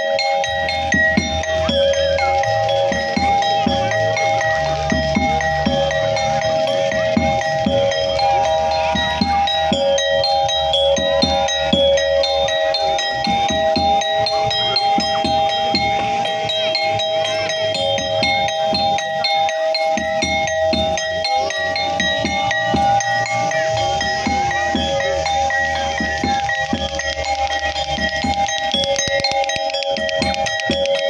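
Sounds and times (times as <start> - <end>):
chime-like metallic notes: 0.0 - 31.0
steady drum beat: 0.0 - 31.0.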